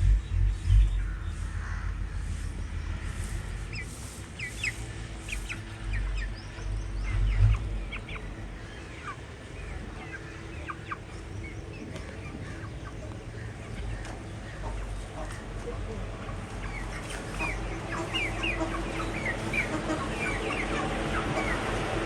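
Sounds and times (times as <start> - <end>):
chicks peeping and clucking: 0.0 - 22.0
low rumble: 0.0 - 22.0.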